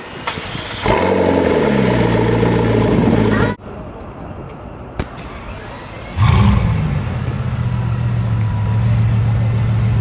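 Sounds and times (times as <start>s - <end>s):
car engine starting and idling: 0.0s - 3.6s, 5.1s - 10.0s.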